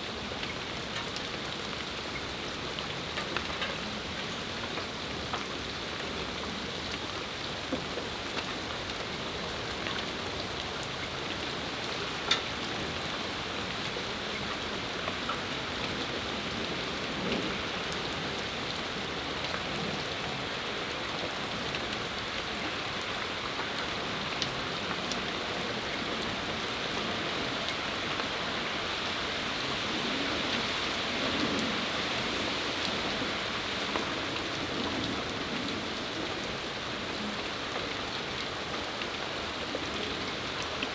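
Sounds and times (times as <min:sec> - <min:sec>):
rain falling on patio: 0:00.0 - 0:40.9.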